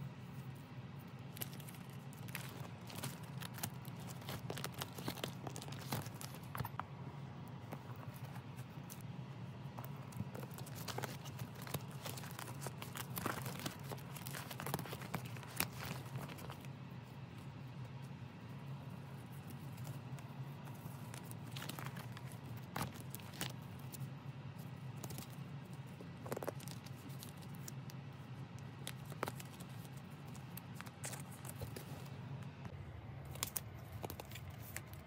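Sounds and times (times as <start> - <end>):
plastic sleeves crinkling: 0.2 - 9.1, 9.8 - 17.5, 18.8 - 35.0.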